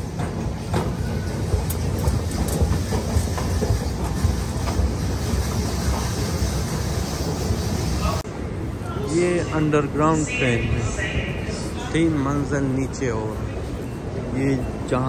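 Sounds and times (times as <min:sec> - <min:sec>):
underground train rumble: 0:00.0 - 0:15.0.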